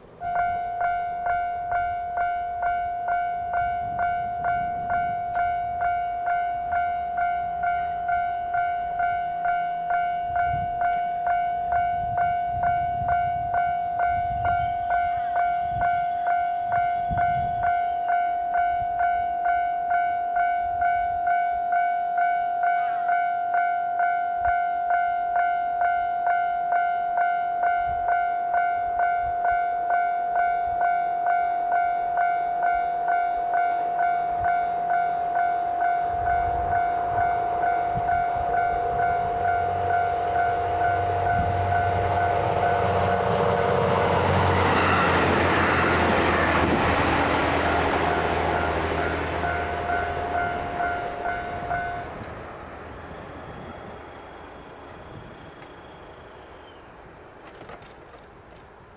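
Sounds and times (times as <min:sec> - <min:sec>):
railcar engine and wheel noise: 0:00.0 - 0:58.9
level crossing bell ringing: 0:00.2 - 0:52.2.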